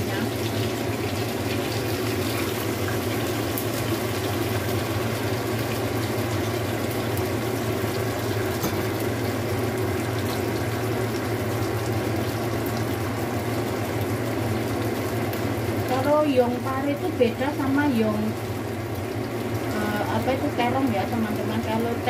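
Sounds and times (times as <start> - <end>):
sauce simmering and bubbling: 0.1 - 16.1, 16.9 - 20.6.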